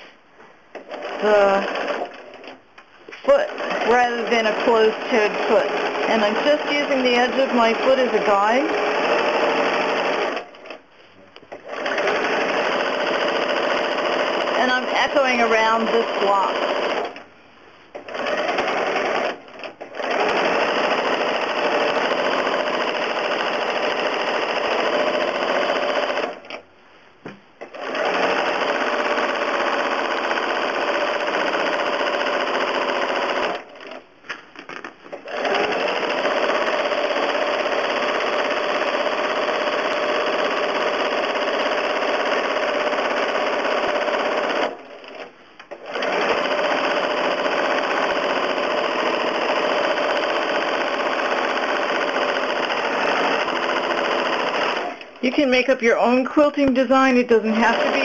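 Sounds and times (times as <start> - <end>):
sewing machine running fast: 0.8 - 2.6, 3.3 - 10.8, 11.5 - 17.2, 18.0 - 26.6, 27.7 - 34.0, 35.2 - 55.2, 57.5 - 58.0.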